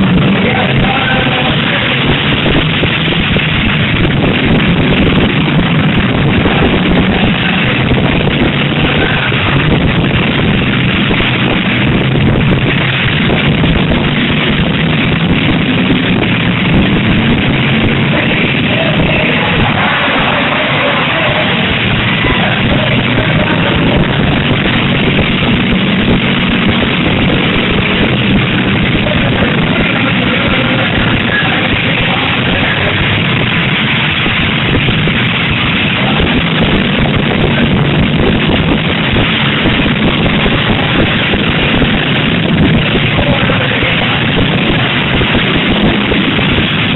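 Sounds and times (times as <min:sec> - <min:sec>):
car engines running: 0:00.0 - 0:46.9
loud rock music: 0:00.0 - 0:46.9.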